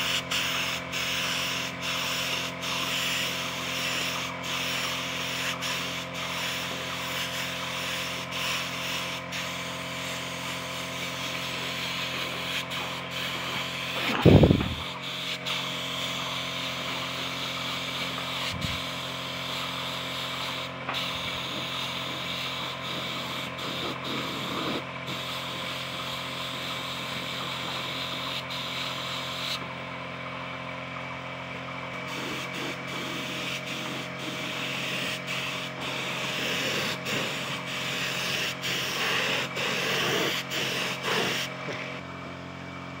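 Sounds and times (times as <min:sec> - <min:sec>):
spray gun hissing: 0:00.0 - 0:29.6, 0:32.0 - 0:41.7
air compressor humming: 0:00.0 - 0:43.0.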